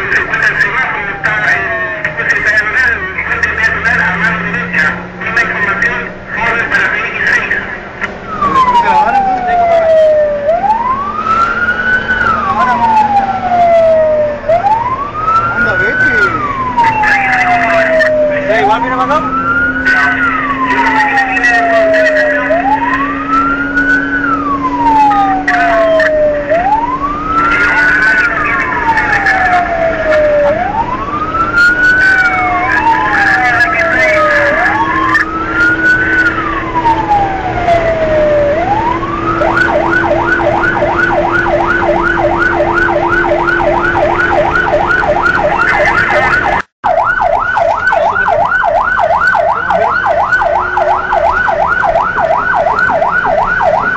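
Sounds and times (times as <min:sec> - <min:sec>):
engine hum: 0:00.0 - 0:53.9
fire engine siren: 0:00.0 - 0:53.9.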